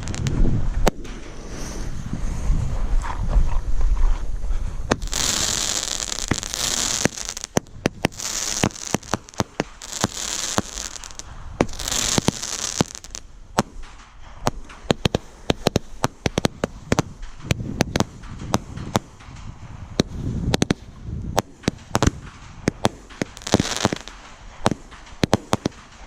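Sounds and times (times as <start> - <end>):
fireworks hissing: 0.0 - 2.5, 4.9 - 26.0
fireworks cracking: 0.0 - 2.8, 4.8 - 26.0.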